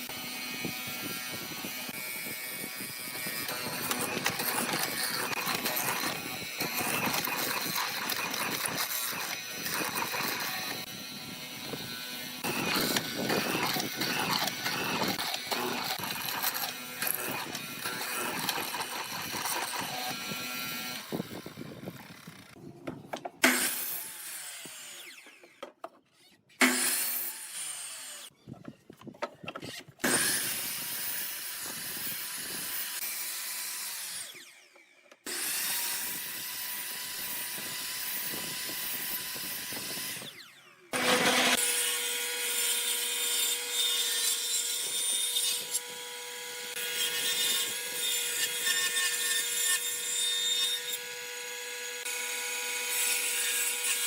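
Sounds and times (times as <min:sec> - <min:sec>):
power tool whine: 0:00.0 - 0:22.6, 0:23.4 - 0:28.4, 0:29.7 - 0:54.0
tools cutting and rubbing wood: 0:00.0 - 0:54.0.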